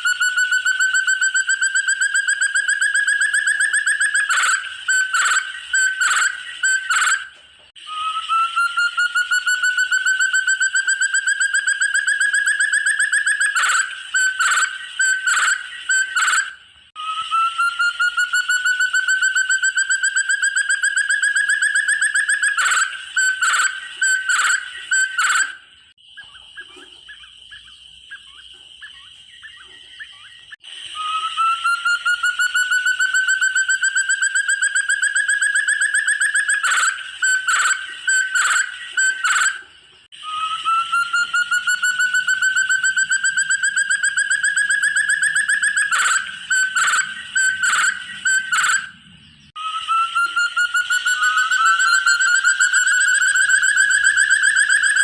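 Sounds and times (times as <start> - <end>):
partridge whistled calls: 0.0 - 55.0.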